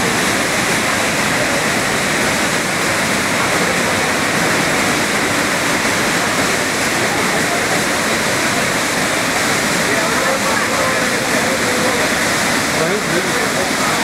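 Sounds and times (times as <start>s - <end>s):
river torrent roaring through gorge: 0.0s - 14.0s.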